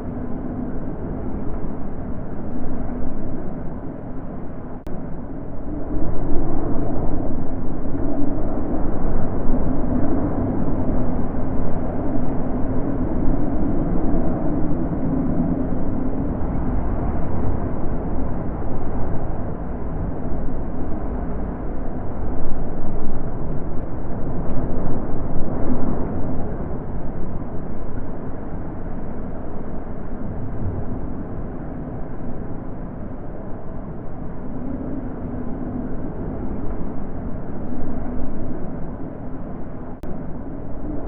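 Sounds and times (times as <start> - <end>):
wind blowing in gusts: 0.0 - 41.0.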